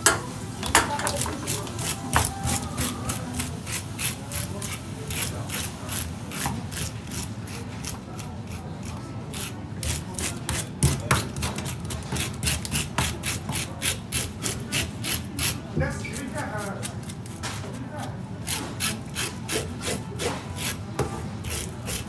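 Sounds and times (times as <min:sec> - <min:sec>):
knife scraping fish scales: 0:01.0 - 0:17.8, 0:18.4 - 0:20.8, 0:21.4 - 0:22.0.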